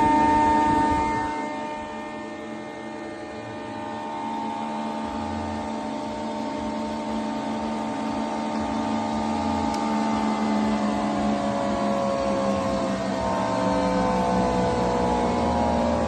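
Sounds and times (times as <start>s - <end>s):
thicknesser machine whine and hum: 0.0s - 16.0s.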